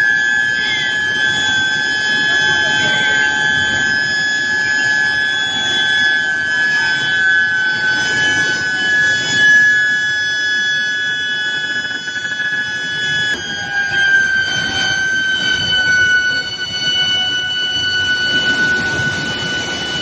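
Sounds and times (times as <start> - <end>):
induction furnace high-pitched whine: 0.0 - 20.0.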